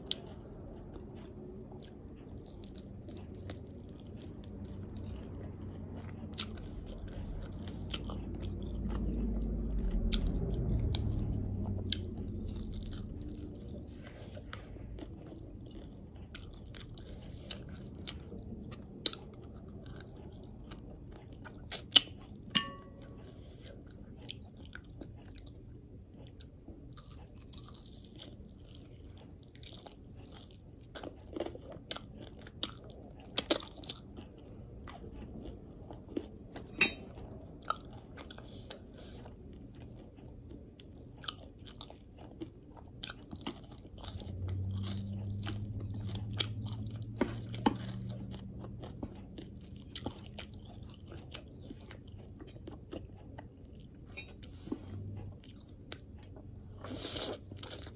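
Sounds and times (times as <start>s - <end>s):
chewing crispy chicken: 0.0s - 57.9s
low steady hum: 0.0s - 57.9s.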